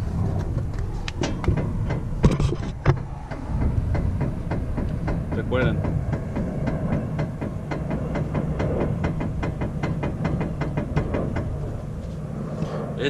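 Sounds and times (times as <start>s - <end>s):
steady low hum: 0.0s - 13.0s
steering tie rod clunking: 0.3s - 12.0s.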